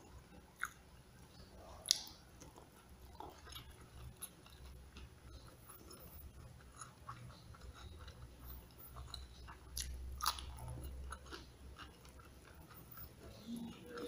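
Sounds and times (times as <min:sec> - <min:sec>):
person chewing and crunching: 0:00.6 - 0:00.8, 0:01.8 - 0:14.0.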